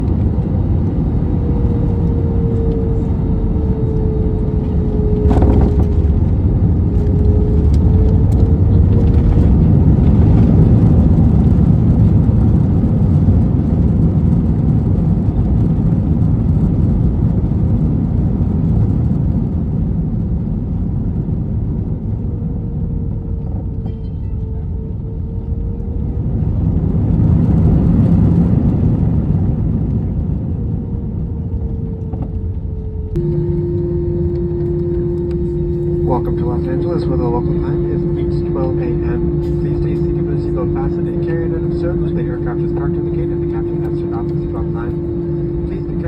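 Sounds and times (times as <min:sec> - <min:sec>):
jet engines reverse thrust: 0:00.0 - 0:23.8, 0:24.6 - 0:46.0
airplane cabin air and engine noise: 0:00.0 - 0:46.0.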